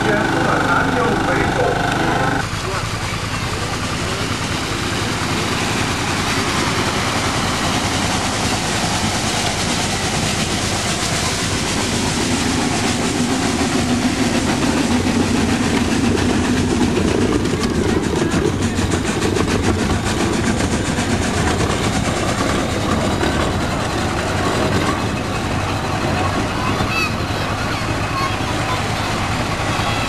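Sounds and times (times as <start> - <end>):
steam carriage clatter and hiss: 0.0 - 30.0.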